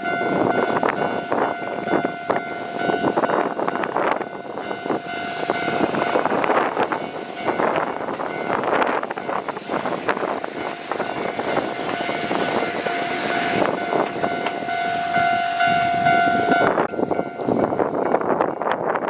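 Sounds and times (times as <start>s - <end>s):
steady tone: 0.0s - 18.6s
train wheels clattering on rails: 0.0s - 19.0s.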